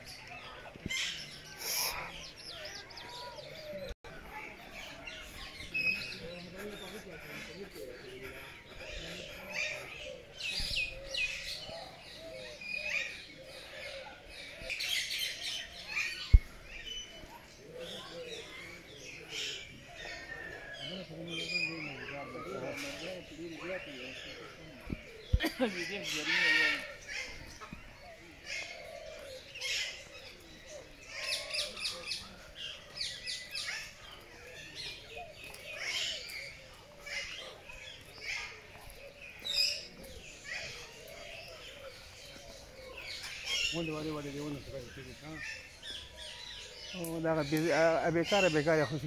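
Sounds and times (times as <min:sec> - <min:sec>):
birds chirping: 0:00.0 - 0:49.0
low bird calls: 0:00.0 - 0:49.0.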